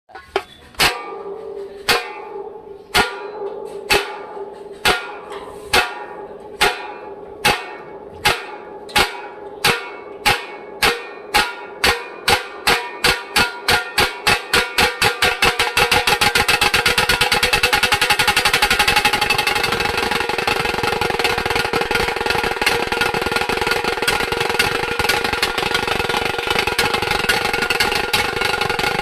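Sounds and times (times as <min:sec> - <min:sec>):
drum strikes: 0:00.1 - 0:29.0.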